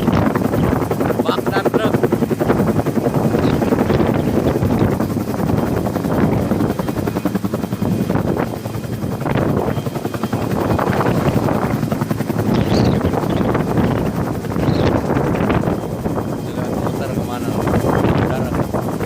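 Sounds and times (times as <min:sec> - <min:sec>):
helicopter rotor beating: 0:00.0 - 0:19.0
helicopter turbine noise: 0:00.0 - 0:19.0.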